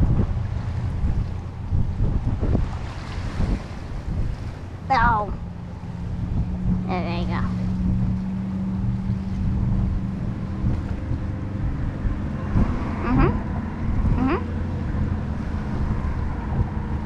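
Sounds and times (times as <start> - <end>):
low motor drone: 0.0 - 17.0
wind buffeting microphone: 0.0 - 17.0.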